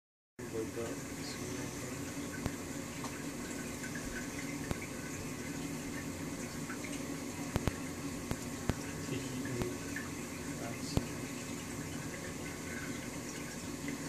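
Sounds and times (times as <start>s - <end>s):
trickling water circulating: 0.4s - 14.0s.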